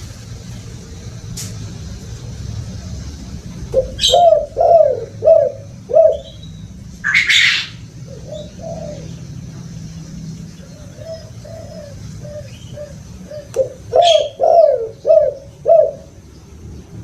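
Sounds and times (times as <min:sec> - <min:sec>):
dove cooing: 0:02.3 - 0:16.2.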